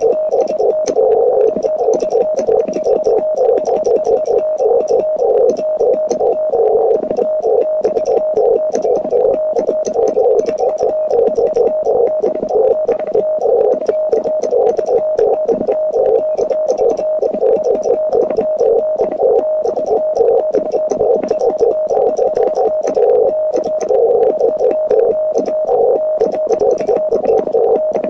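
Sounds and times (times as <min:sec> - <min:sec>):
faint clicks: 0:00.0 - 0:28.0
morse code tone: 0:00.0 - 0:28.0.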